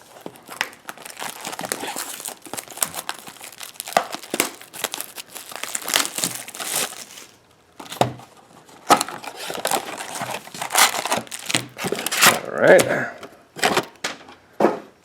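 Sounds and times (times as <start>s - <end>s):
foil wrappers crinkling and tearing: 0.0s - 12.9s.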